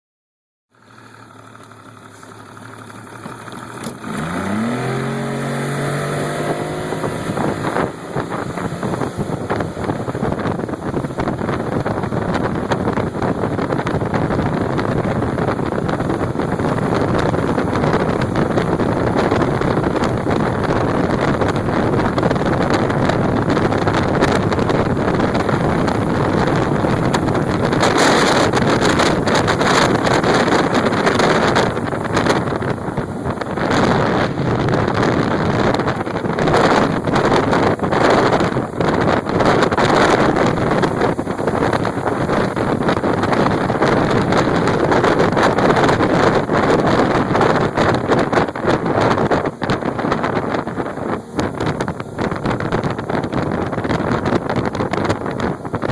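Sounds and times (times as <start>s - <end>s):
motorboat engine revving: 0.7s - 55.9s
rush of wind and water: 1.4s - 55.9s.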